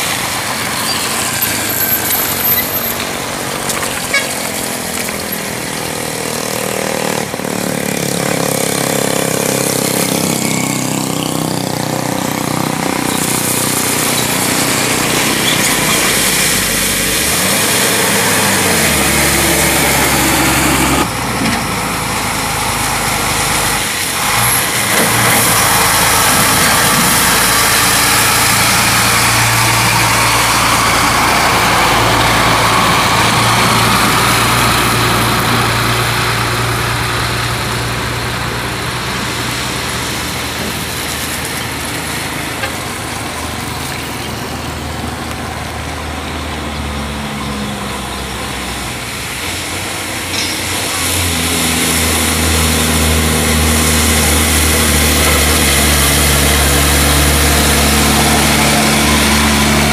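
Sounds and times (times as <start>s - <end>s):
diesel trucks passing: 0.0s - 59.9s.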